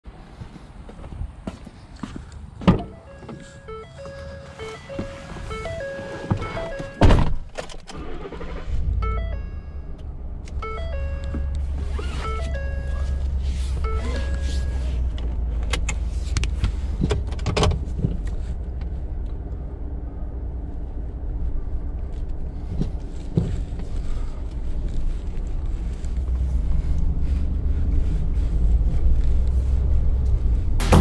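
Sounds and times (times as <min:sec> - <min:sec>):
pickup truck rumbling inside cab: 0:02.7 - 0:07.6, 0:08.3 - 0:31.0.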